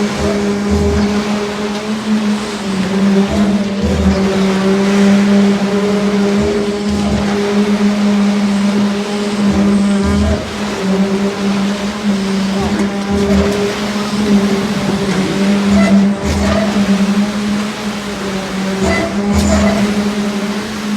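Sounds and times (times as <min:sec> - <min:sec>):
diesel engine droning: 0:00.0 - 0:20.9.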